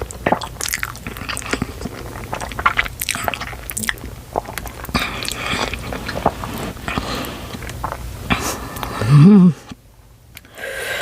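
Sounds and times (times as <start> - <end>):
wet chewing of noodles: 0.0 - 9.8.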